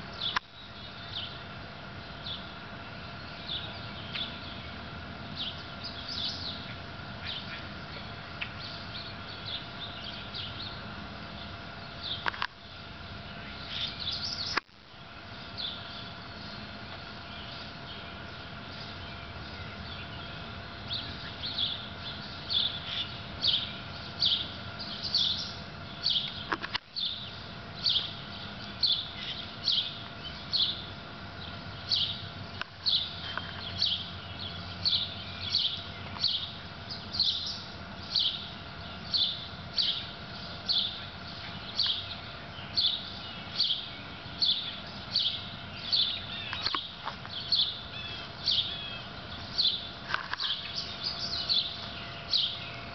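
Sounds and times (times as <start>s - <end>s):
bird chirping: 0.0s - 1.4s, 2.2s - 4.8s, 5.4s - 12.4s, 13.0s - 14.6s, 15.3s - 52.9s
faint steady hum: 0.0s - 52.9s.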